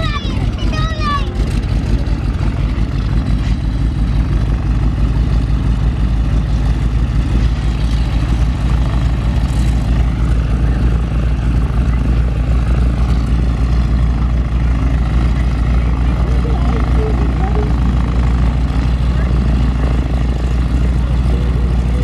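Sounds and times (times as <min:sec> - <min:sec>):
biplane radial engine and propeller: 0:00.0 - 0:22.0.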